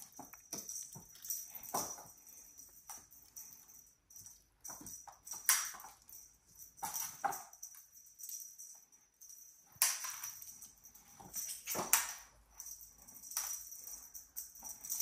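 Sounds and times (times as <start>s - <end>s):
kittens' paws thumping and scuffling: 0.0s - 8.4s, 9.8s - 15.0s.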